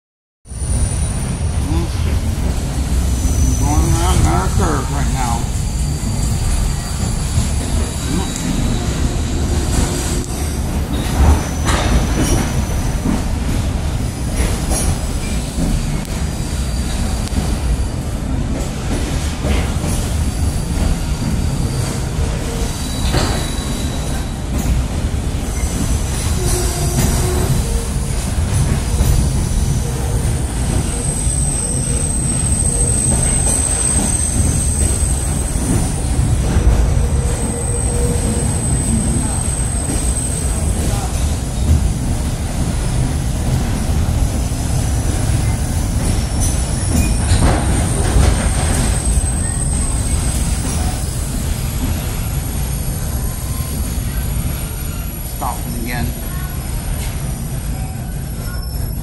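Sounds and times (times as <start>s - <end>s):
train wheels rumbling on rails: 0.5s - 59.0s.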